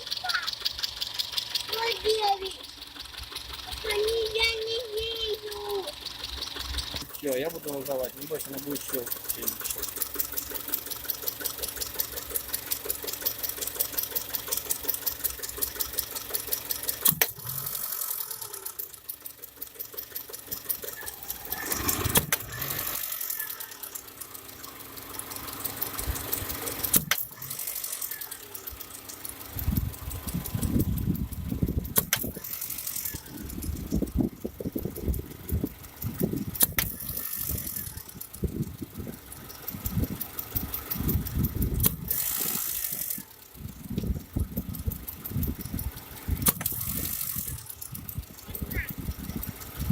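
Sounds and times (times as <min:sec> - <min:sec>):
car engine ticking: 0:00.0 - 0:49.9
sharp clicks: 0:00.0 - 0:49.9.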